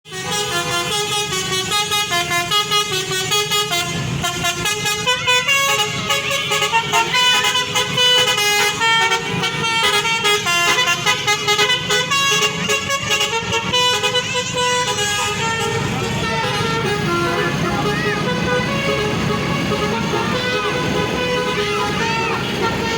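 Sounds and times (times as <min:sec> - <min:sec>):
musical air horn melody: 0:00.1 - 0:22.9.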